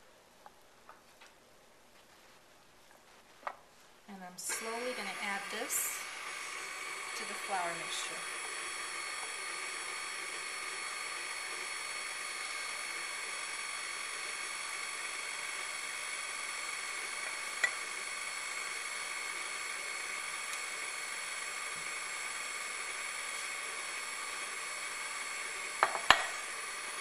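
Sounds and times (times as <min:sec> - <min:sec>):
stand mixer motor whine: 0:04.4 - 0:27.0.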